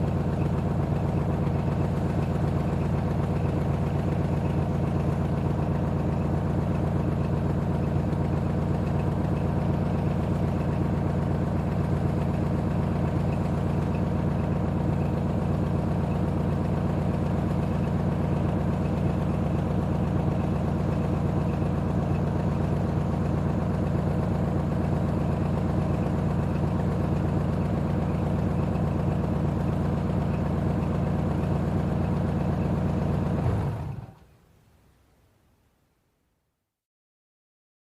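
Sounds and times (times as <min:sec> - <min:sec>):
car engine idling: 0:00.0 - 0:34.3.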